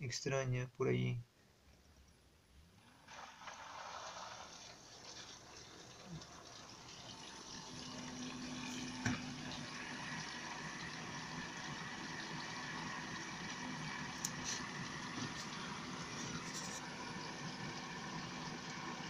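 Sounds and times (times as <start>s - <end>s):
dishwasher running: 2.9s - 19.0s.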